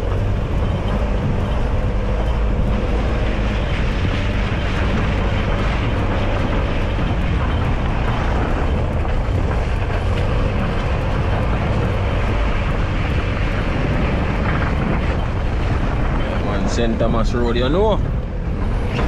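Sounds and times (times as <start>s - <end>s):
engine and tyres rumbling: 0.0s - 19.0s
wind buffeting microphone: 0.0s - 19.0s.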